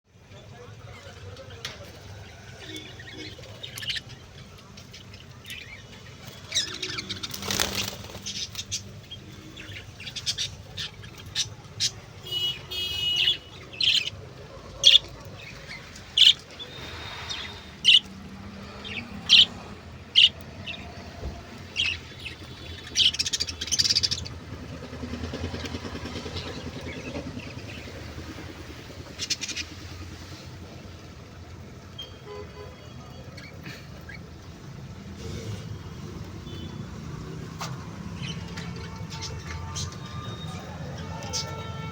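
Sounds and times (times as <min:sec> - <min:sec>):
birds chirping: 0:00.2 - 0:41.9.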